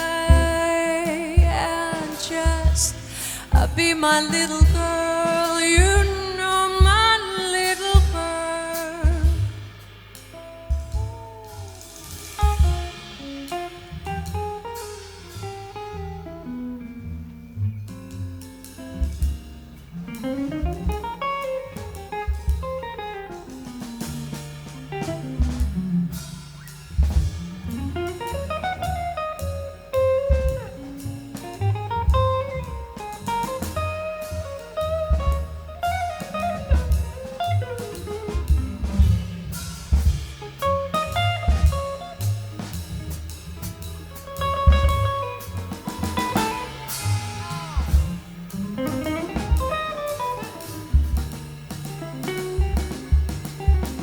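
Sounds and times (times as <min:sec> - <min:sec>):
jazz band playing: 0:00.0 - 0:54.0.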